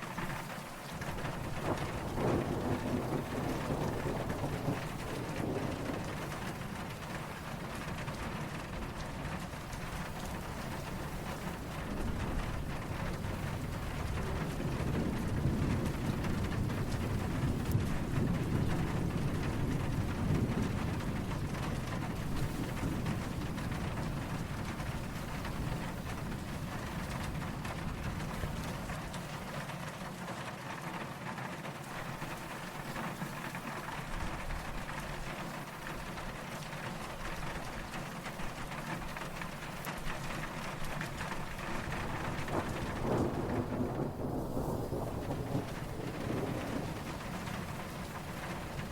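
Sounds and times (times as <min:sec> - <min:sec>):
distant thunder rumbling: 0:00.0 - 0:30.1, 0:31.7 - 0:48.9
steady rain falling: 0:00.0 - 0:48.9.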